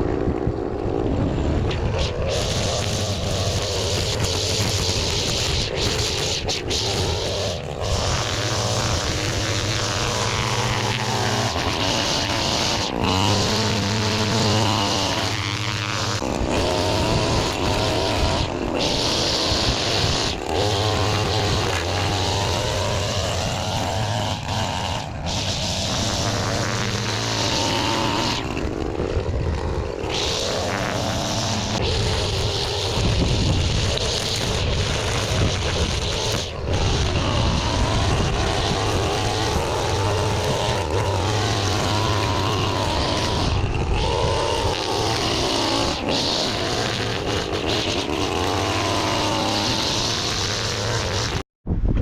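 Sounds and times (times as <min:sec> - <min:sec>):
string trimmer engine revving: 0:00.0 - 0:51.5.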